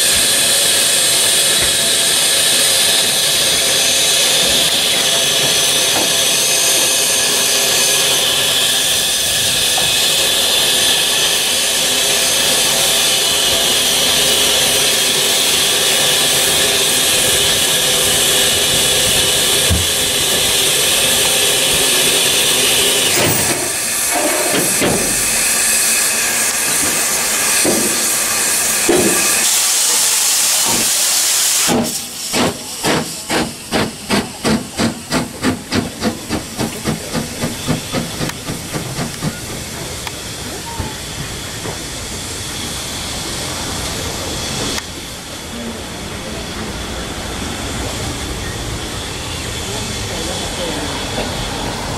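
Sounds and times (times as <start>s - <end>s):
steam hissing: 0.0s - 51.9s
steam locomotive chuffing: 0.0s - 51.9s.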